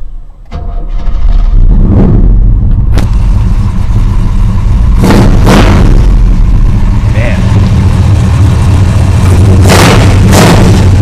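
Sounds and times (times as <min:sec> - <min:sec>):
engine revving: 0:00.8 - 0:11.0.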